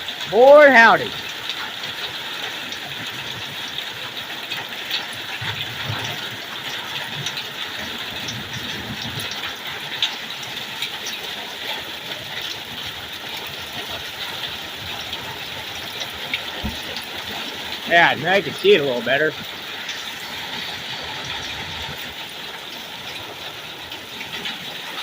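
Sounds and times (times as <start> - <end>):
hail falling: 0.0 - 25.0.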